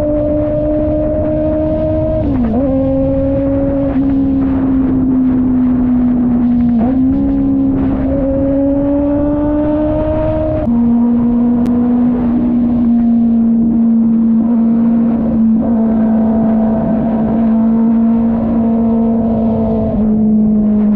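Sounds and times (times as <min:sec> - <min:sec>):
low wind rumble: 0:00.0 - 0:20.9
motorcycle engine running: 0:00.0 - 0:20.9.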